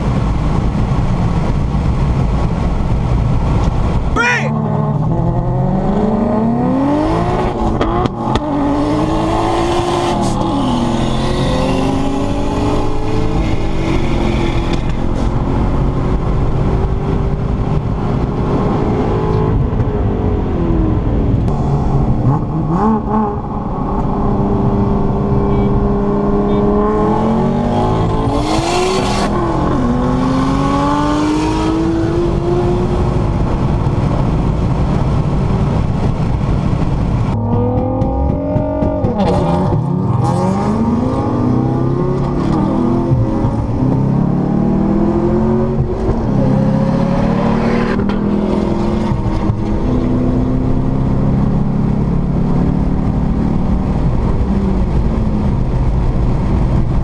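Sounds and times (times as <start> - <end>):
car engine at full throttle: 0.0 - 57.0
road noise: 0.0 - 57.0.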